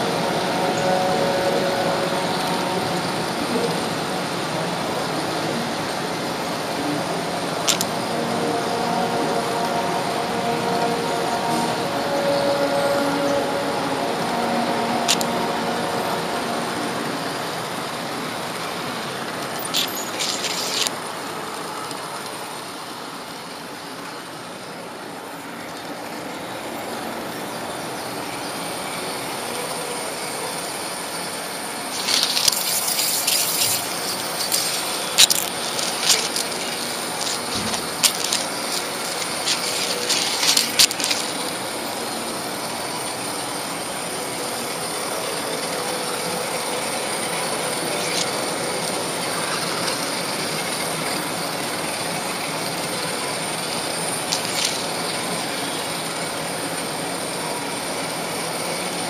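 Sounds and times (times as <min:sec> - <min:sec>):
model train rolling: 0:00.0 - 0:59.0.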